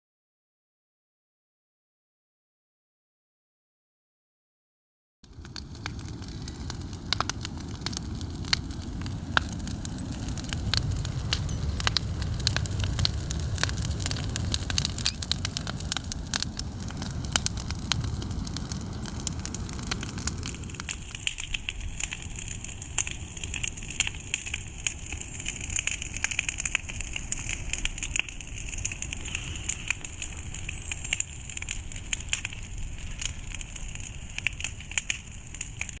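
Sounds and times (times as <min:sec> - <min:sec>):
campfire crackling and popping: 0:05.2 - 0:36.0
low rumble: 0:05.3 - 0:35.8.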